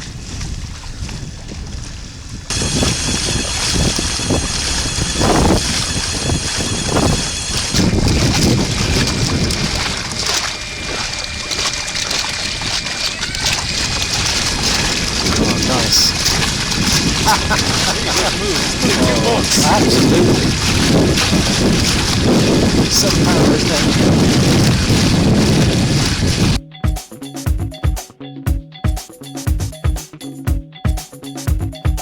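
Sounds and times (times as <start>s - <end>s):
water splashing around kayak: 0.0s - 26.6s
wind buffeting microphone: 0.0s - 26.6s.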